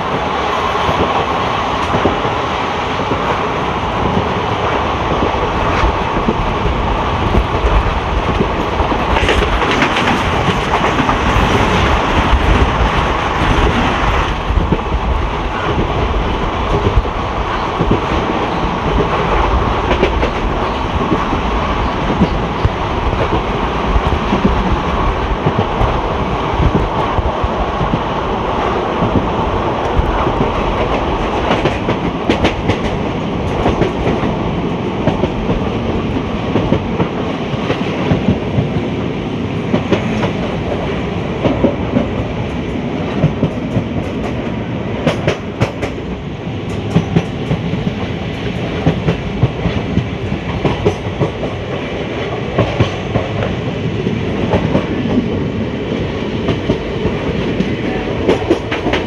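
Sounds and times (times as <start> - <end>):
clickety-clack at rail joints: 0.0 - 59.0
train wheels rumbling on track: 0.0 - 59.0.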